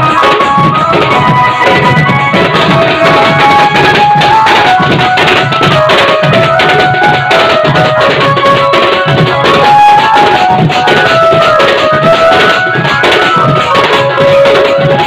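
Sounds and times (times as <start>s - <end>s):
fast hand drum rhythm: 0.0s - 15.0s
melody of held notes: 0.0s - 15.0s.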